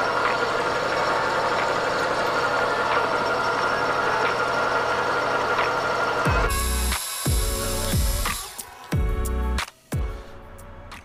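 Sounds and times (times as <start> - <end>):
metal lathe whine and hum: 0.0 - 11.0.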